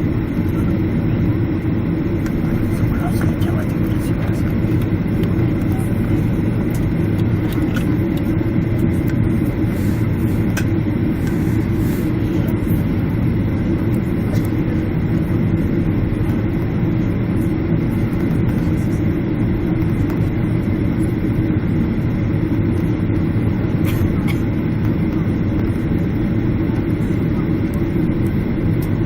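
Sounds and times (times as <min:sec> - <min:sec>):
jet engine rumble inside cabin: 0:00.0 - 0:29.0.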